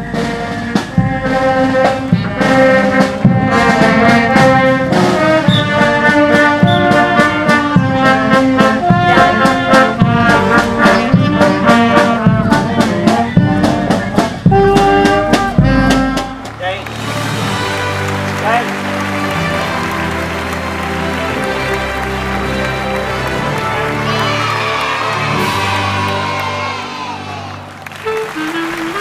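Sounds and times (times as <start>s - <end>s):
steady drum beat: 0.0s - 26.6s
brass band playing: 0.0s - 29.0s.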